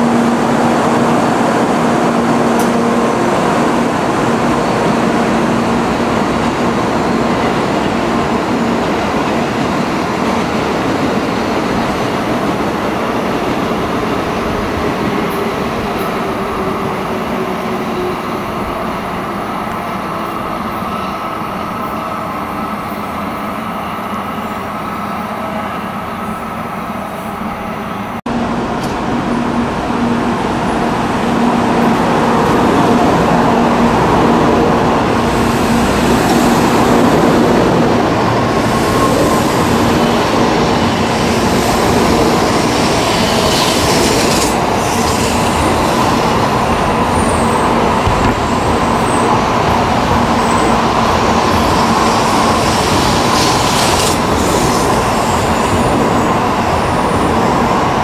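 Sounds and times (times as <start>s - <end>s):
high-speed train rail noise: 0.0s - 58.0s.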